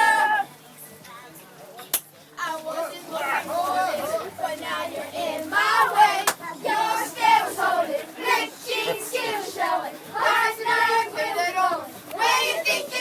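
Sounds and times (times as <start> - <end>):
children's voices sing-song: 2.4 - 13.0.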